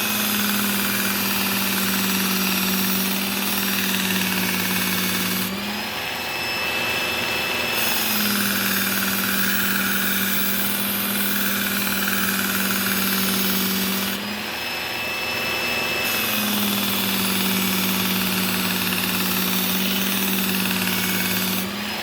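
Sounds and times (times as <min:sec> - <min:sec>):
belt sharpener motor hum: 0:00.0 - 0:22.0.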